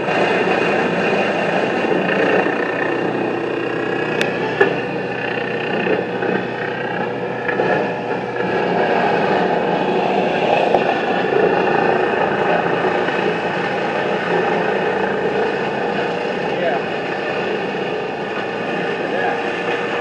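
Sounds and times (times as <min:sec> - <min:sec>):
tree-cutting machine engine drone: 0:00.0 - 0:20.0.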